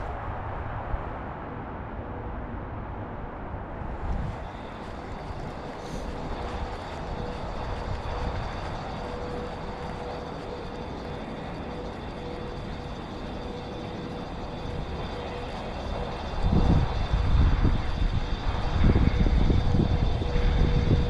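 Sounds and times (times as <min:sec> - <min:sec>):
faint hum: 0:00.0 - 0:21.0
outdoor rushing noise: 0:00.0 - 0:21.0
wind buffeting microphone: 0:00.0 - 0:21.0.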